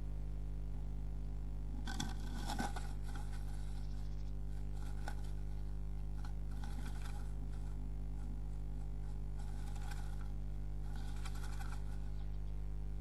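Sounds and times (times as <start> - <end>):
steady electrical hum: 0.0 - 13.0
bird scratching in nest box: 1.8 - 12.3.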